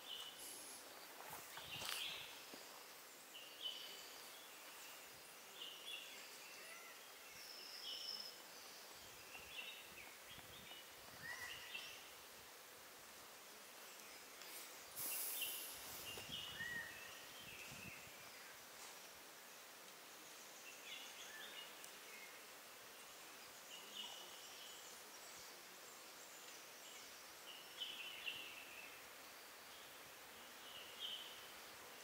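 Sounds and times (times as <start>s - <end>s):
faint forest ambience: 0.0s - 32.0s.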